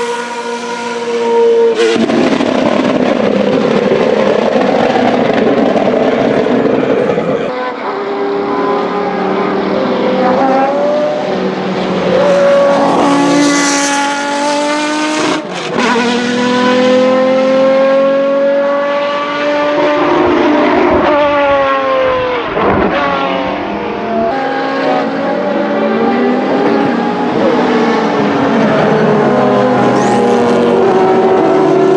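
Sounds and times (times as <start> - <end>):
racing car engines at high revs: 0.0 - 31.9.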